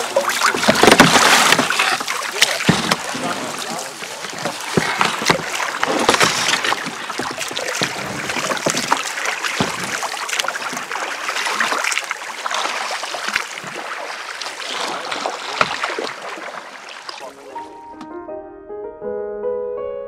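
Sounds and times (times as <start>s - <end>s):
paddles splashing in water: 0.0s - 17.8s.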